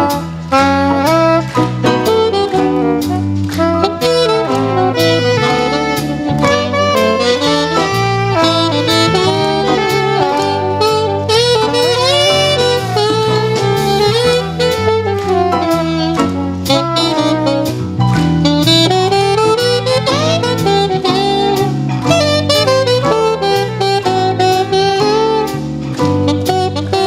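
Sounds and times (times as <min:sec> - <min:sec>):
bass: 0:00.0 - 0:27.0
drums: 0:00.0 - 0:27.0
saxophone playing jazz melody: 0:00.0 - 0:27.0.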